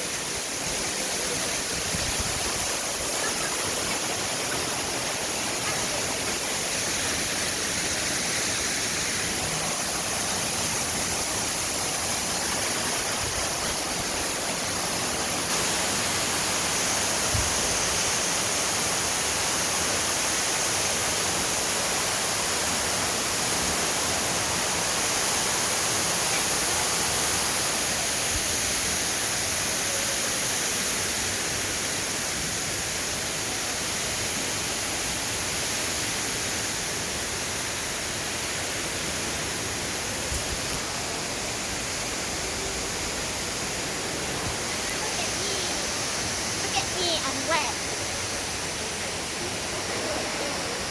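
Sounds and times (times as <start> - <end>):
running water hiss: 0.0 - 50.9.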